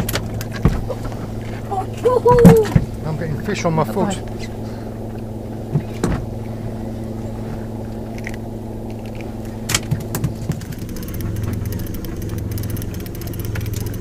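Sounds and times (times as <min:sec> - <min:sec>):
small boat engine running: 0:00.0 - 0:14.0.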